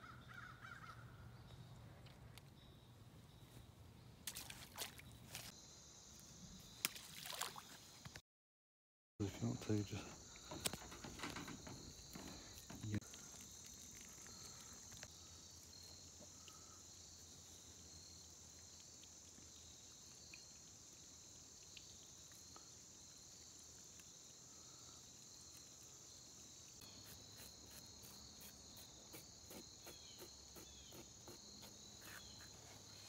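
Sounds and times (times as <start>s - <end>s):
crickets and insects trilling: 4.3s - 8.2s, 9.2s - 33.0s.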